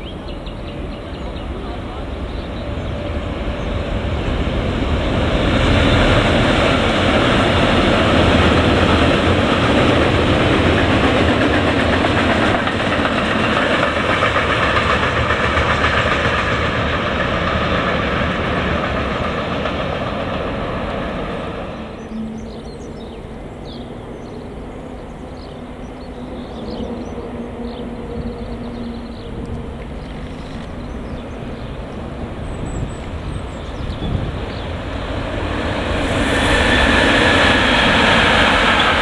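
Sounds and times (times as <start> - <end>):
freight train passing: 0.0 - 39.0.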